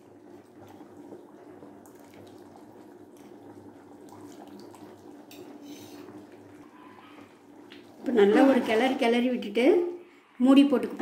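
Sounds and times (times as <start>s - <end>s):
food bubbling at a boil: 0.0s - 10.2s.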